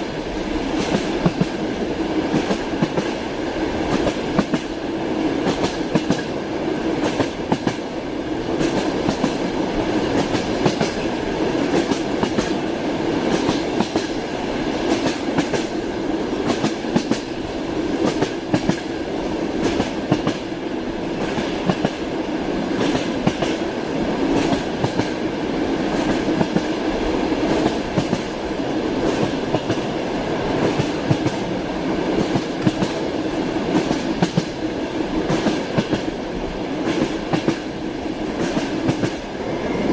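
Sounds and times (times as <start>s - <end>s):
train running noise: 0.0s - 39.9s
train wheels clacking: 0.7s - 3.2s, 3.8s - 4.8s, 5.4s - 6.4s, 7.0s - 7.9s, 8.5s - 20.5s, 21.2s - 22.0s, 22.7s - 26.8s, 27.4s - 28.4s, 29.0s - 36.2s, 36.8s - 39.9s.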